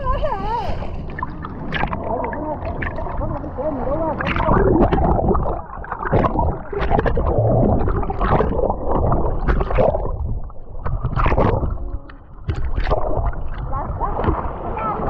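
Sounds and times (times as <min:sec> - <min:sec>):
muffled underwater rumble: 0:00.0 - 0:15.0
water gurgling and splashing: 0:00.0 - 0:15.0.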